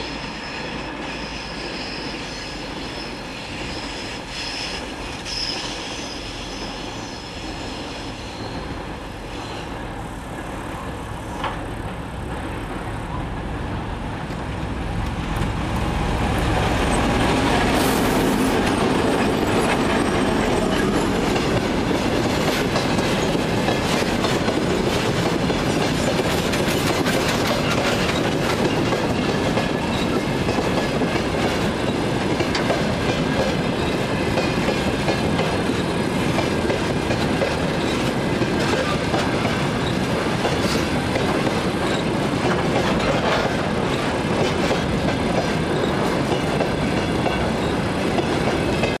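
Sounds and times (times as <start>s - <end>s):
freight train rumbling by: 0.0s - 49.0s
clickety-clack over rail joints: 9.5s - 49.0s.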